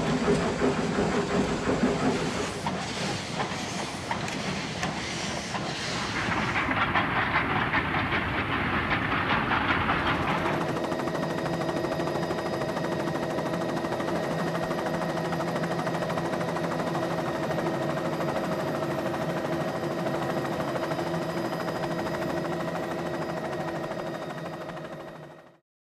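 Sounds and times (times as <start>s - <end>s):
helicopter engine whine: 0.0s - 25.6s
helicopter rotor chop: 0.0s - 25.6s.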